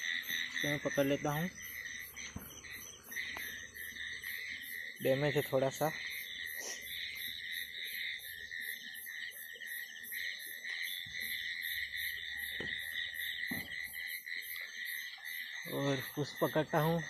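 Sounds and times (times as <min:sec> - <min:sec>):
crickets trilling: 0:00.0 - 0:17.0
frogs chirping: 0:00.0 - 0:17.0.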